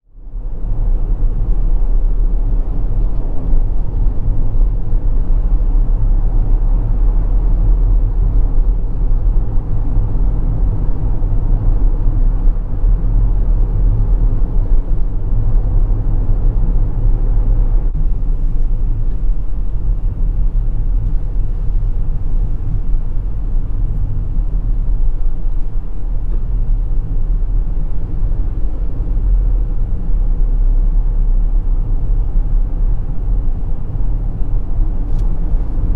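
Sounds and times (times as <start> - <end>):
car cabin road and engine rumble: 0.1 - 35.9.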